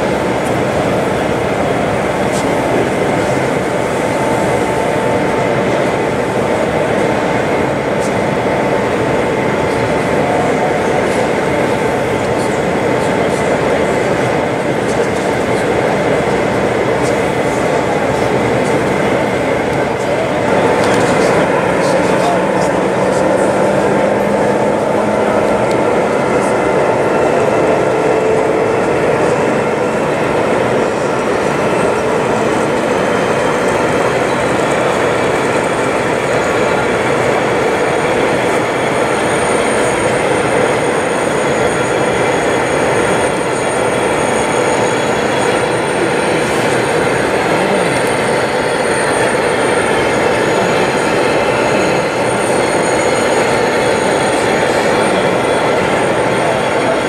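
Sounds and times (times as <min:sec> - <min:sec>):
model train wheels on track: 0:00.0 - 0:57.0
recorded diesel engine sound: 0:00.0 - 0:57.0.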